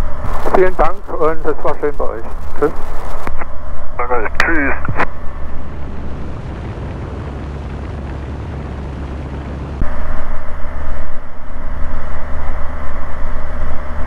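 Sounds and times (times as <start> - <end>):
aircraft engine drone: 0.0 - 14.0
steady hum tones: 0.0 - 14.0.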